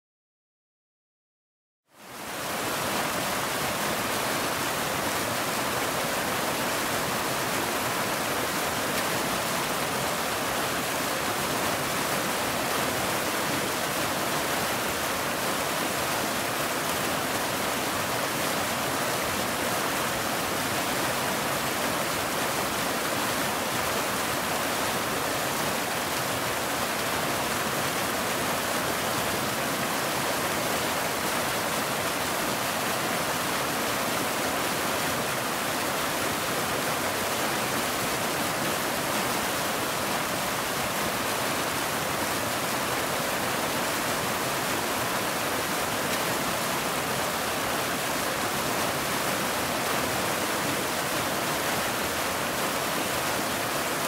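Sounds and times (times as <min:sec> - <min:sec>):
waterfall rushing: 0:02.0 - 0:54.0.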